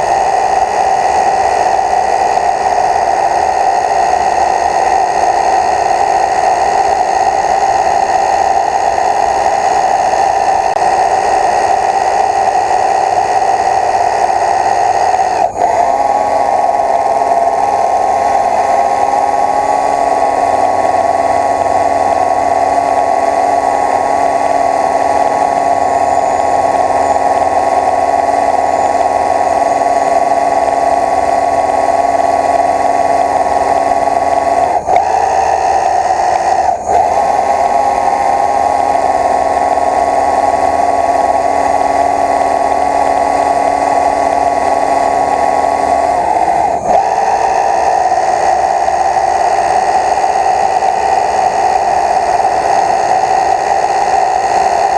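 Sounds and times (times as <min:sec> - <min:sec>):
drone propellers humming: 0:00.0 - 0:54.9.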